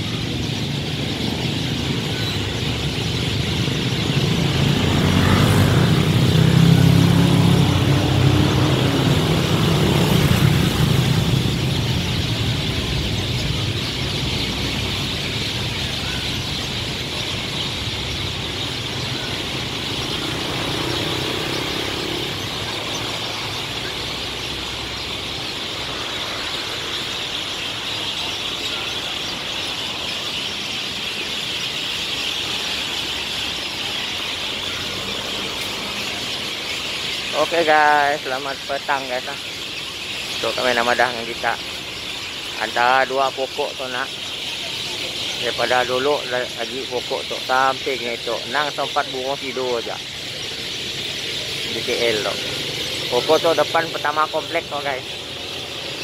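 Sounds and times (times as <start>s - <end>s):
flock of birds chattering: 0.0s - 56.0s
road traffic passing: 0.0s - 56.0s.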